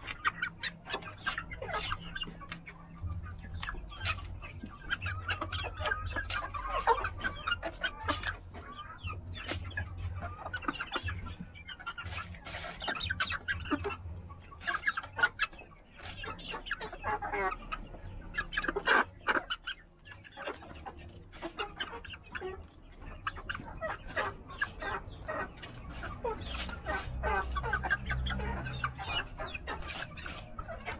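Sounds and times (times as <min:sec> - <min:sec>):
chickens clucking and calling: 0:00.0 - 0:30.9.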